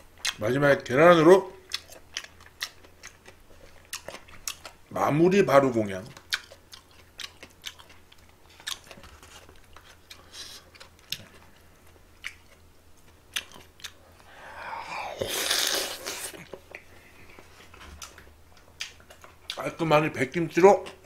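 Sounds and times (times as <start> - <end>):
noisy eating: 0.2 - 21.0.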